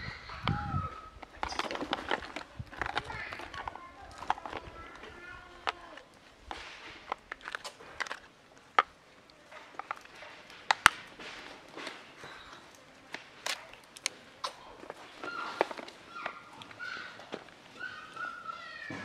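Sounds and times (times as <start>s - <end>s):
sharp clicks and cracks: 1.2s - 19.0s.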